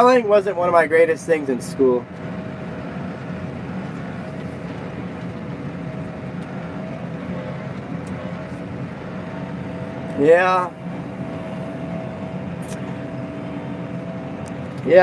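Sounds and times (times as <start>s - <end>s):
thin steady whine: 0.0s - 15.0s
tractor engine running: 0.0s - 15.0s.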